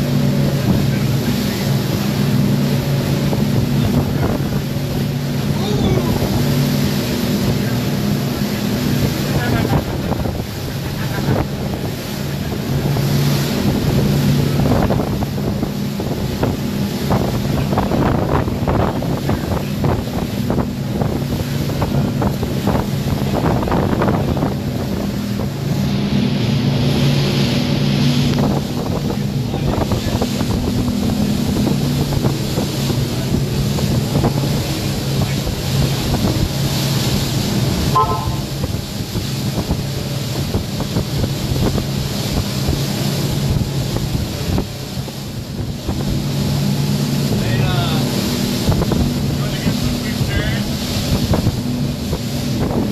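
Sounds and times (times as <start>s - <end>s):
engine drone: 0.0s - 52.9s
wind buffeting microphone: 0.0s - 52.9s.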